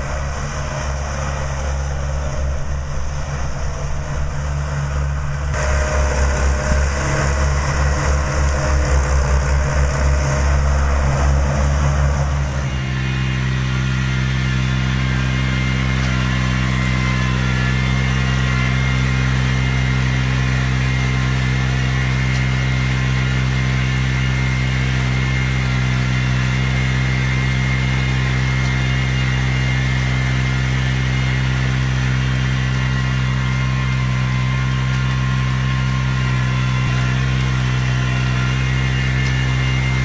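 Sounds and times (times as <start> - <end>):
engine running steadily: 0.0 - 40.0
thin high whine: 0.1 - 40.0.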